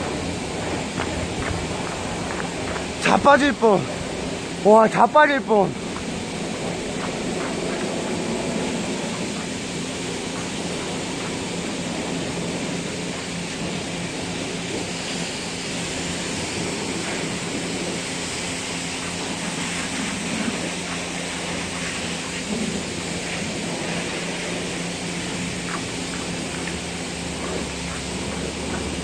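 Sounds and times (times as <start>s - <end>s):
low motor hum: 0.0s - 29.0s
pressure washer spraying water: 0.0s - 29.0s.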